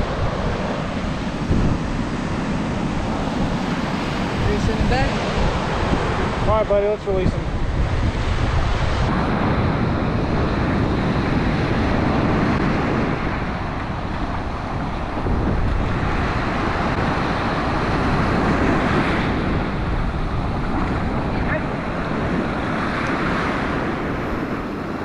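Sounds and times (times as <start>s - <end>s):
surf breaking on beach: 0.0s - 25.0s
wind buffeting microphone: 0.0s - 25.0s.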